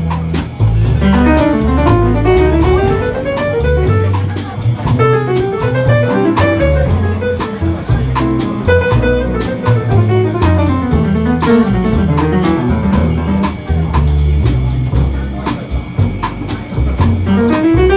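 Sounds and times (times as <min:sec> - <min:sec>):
small jazz band: 0:00.0 - 0:17.9.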